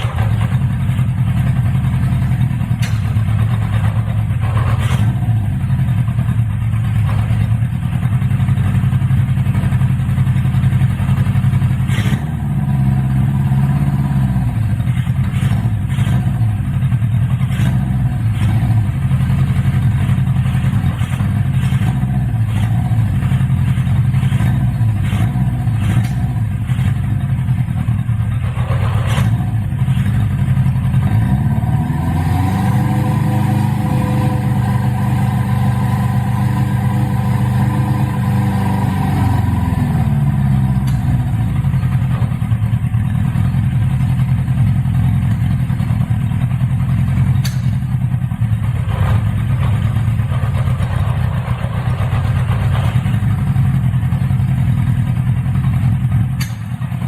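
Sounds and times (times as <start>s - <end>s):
motorcycle engine idling: 0.0s - 32.3s, 33.5s - 57.0s.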